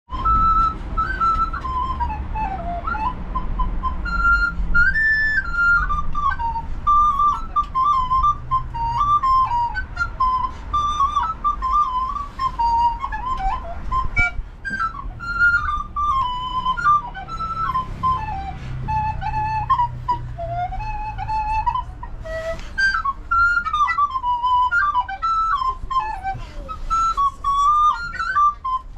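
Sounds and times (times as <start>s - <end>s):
flute-like melody: 0.1s - 28.9s.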